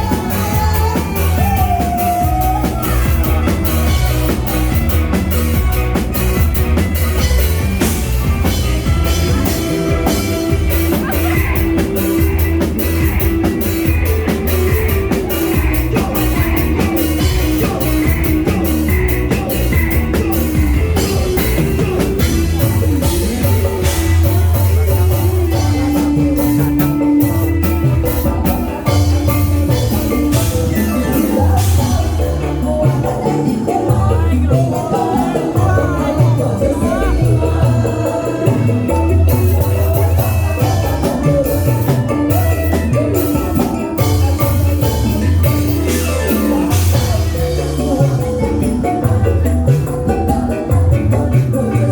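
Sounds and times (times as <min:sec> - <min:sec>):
drum kit: 0:00.0 - 0:51.9
heavy bass: 0:00.0 - 0:51.9
person singing: 0:00.0 - 0:51.9.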